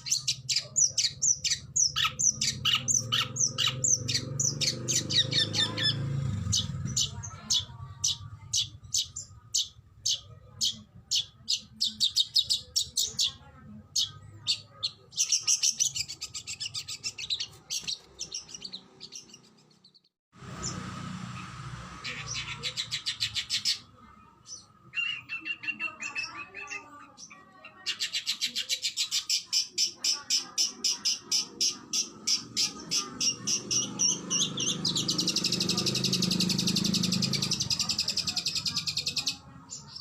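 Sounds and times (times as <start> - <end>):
bird singing rapid sharp notes: 0.0 - 40.0.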